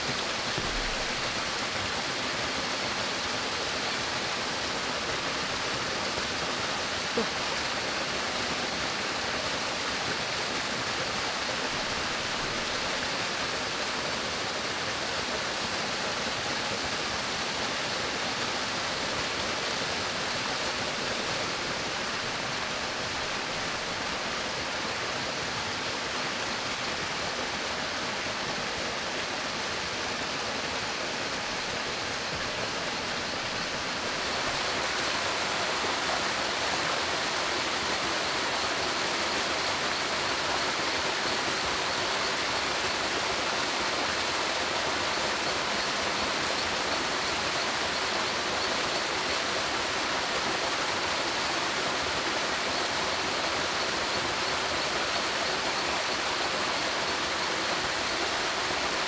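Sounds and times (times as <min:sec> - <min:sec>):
waterfall pouring into pool: 0:00.0 - 0:59.0.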